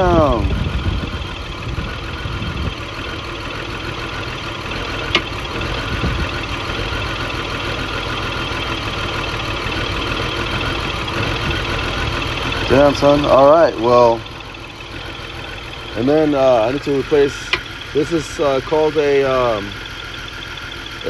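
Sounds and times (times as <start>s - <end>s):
car engine idling with misfire: 0.0s - 21.0s.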